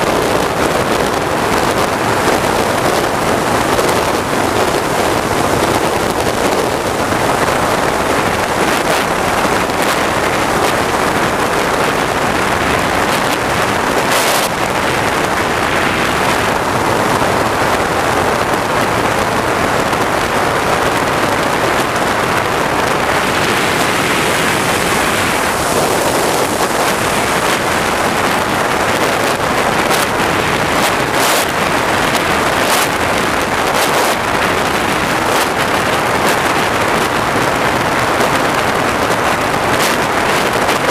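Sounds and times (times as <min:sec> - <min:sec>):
jet turbine roaring: 0:00.0 - 0:40.9
wind buffeting microphone: 0:00.0 - 0:40.9.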